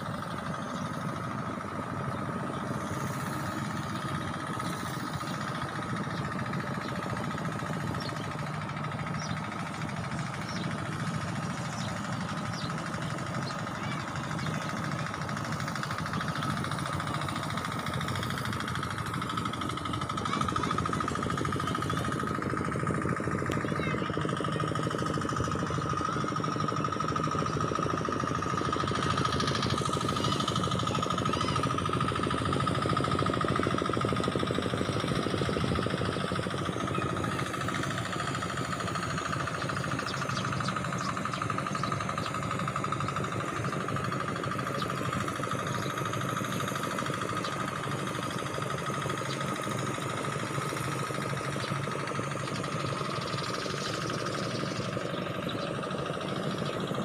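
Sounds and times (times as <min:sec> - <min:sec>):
engine running with rapid knocking: 0:00.0 - 0:57.0.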